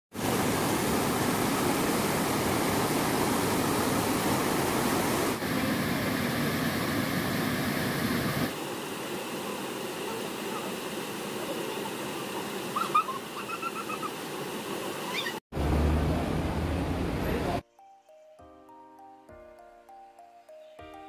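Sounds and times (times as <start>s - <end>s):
rushing stream and waterfall: 0.1s - 17.4s.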